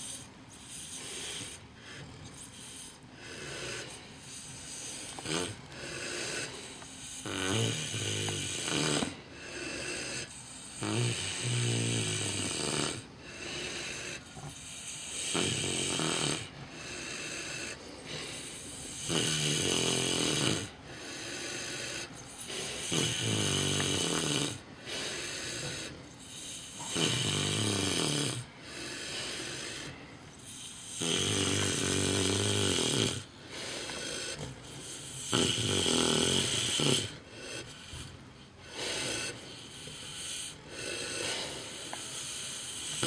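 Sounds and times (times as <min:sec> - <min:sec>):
pig snoring: 0:00.0 - 0:43.0.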